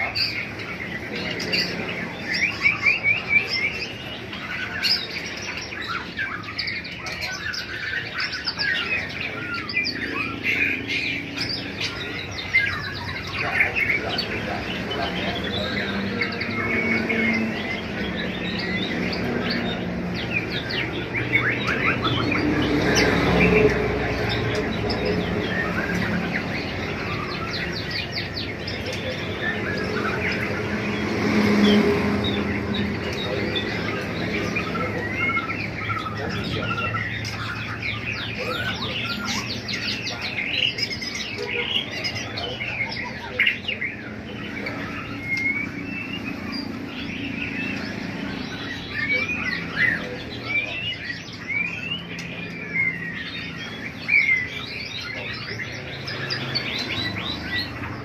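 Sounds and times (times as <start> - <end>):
caged birds chirping: 0.0 - 58.0.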